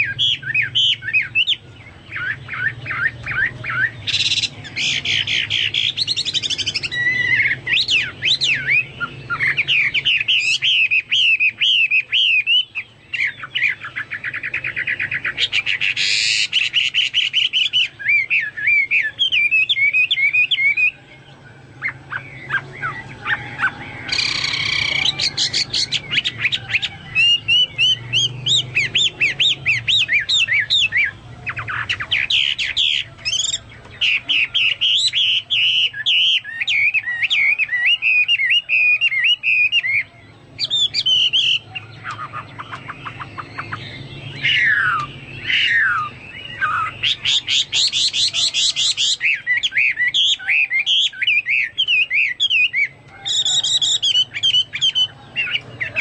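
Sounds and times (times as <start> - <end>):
bird singing trills and whistles: 0.0 - 56.0.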